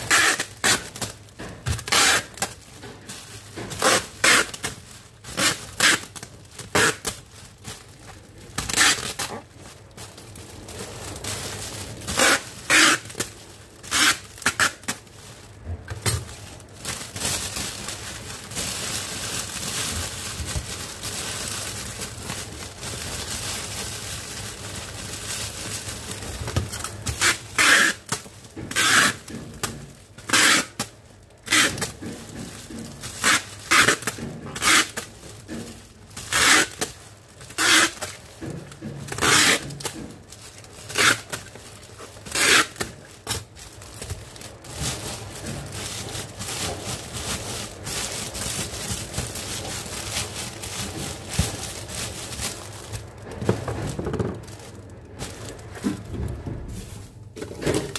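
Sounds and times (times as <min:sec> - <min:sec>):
cellophane wrap crinkling: 0:00.0 - 0:57.9.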